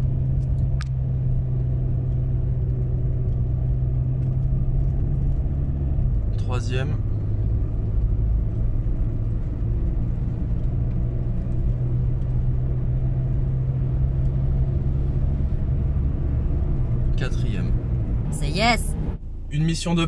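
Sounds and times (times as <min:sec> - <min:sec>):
diesel engine drone accelerating: 0:00.0 - 0:20.0
road noise: 0:00.0 - 0:20.0.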